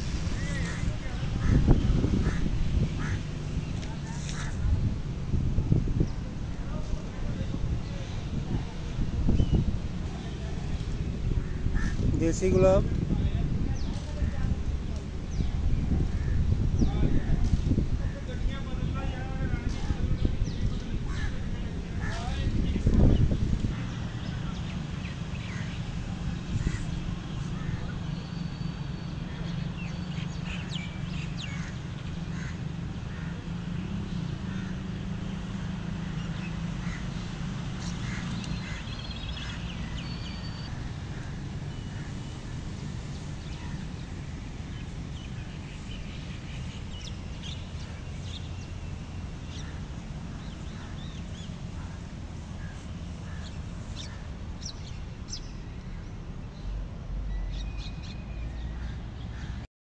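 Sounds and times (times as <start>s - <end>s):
birds chirping: 0.0s - 4.8s, 5.6s - 59.7s.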